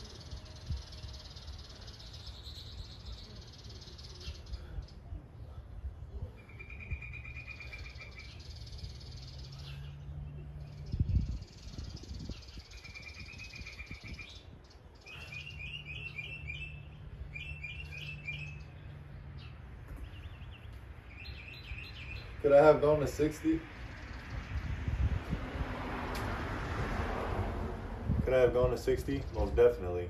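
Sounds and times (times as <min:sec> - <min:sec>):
small birds chirping: 0:00.0 - 0:25.3
street traffic rumble: 0:00.0 - 0:30.0.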